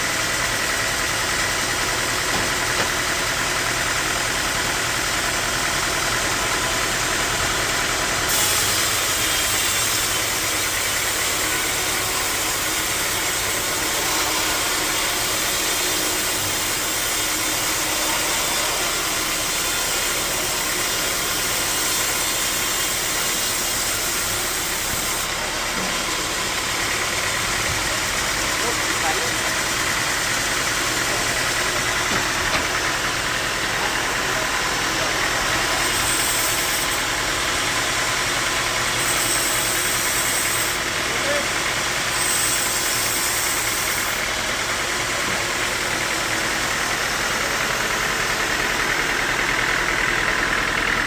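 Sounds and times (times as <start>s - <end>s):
sawmill machinery drone: 0.0s - 51.0s.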